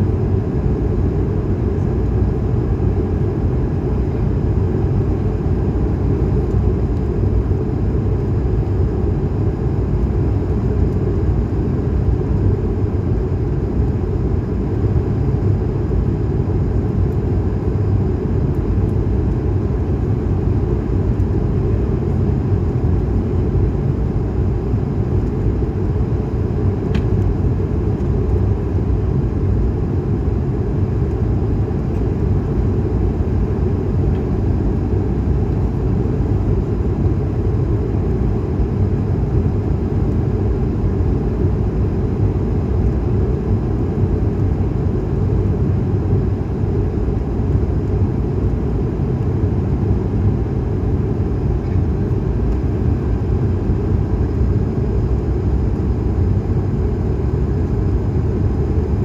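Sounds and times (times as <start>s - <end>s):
jet engine rumble in cabin: 0.0s - 59.0s.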